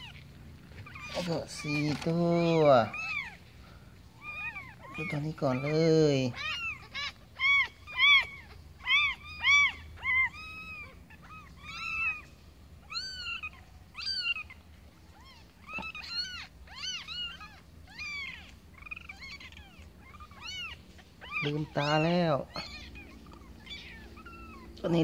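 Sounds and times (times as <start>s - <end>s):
newborn kittens mewing: 0.0s - 25.0s.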